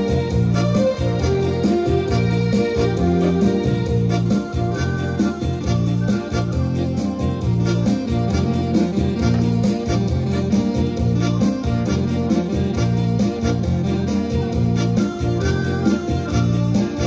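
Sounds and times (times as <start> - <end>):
keyboard ensemble music: 0.0 - 17.0.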